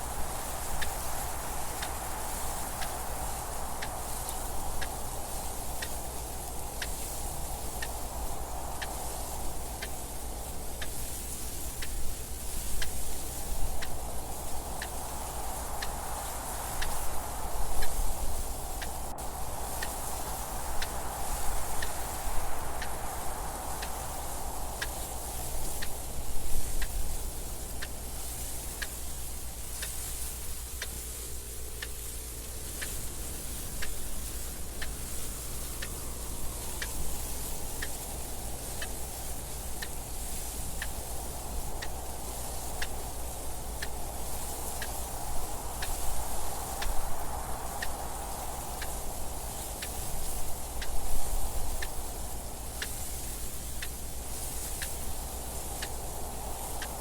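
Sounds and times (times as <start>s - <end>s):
soft wind noise: 0.0s - 57.0s.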